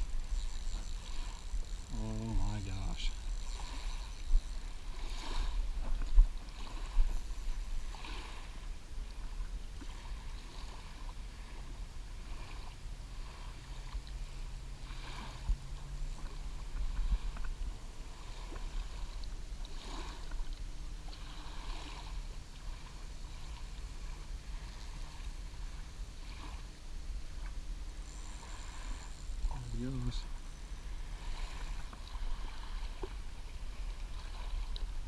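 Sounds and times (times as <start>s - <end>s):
faint steady hum: 0.0s - 35.0s
small waves lapping: 0.0s - 35.0s.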